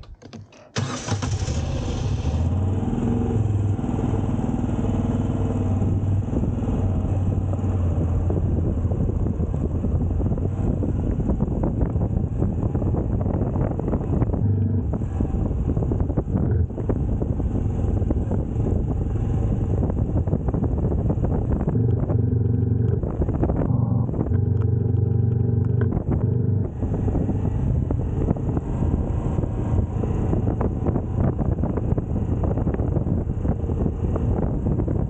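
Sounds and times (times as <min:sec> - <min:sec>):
motorcycle engine running: 0:03.7 - 0:35.0
wind on microphone: 0:05.1 - 0:35.0.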